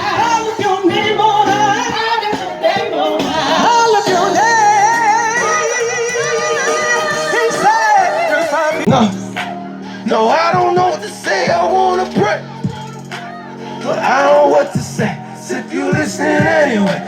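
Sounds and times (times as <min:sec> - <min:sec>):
musical accompaniment: 0:00.0 - 0:17.0.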